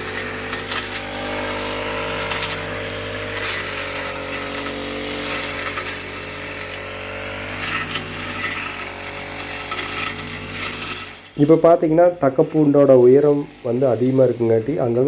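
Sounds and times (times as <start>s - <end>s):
blade cutting through stalks: 0.0s - 15.0s
brush cutter engine running: 0.0s - 15.0s.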